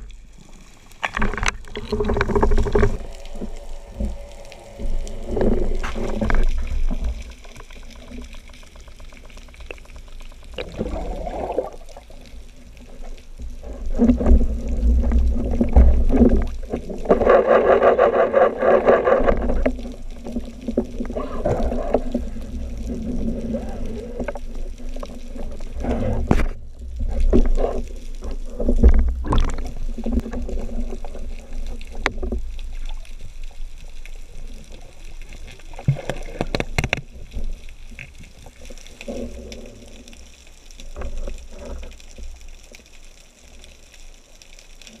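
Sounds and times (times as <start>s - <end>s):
low underwater rumble: 0.0s - 42.5s.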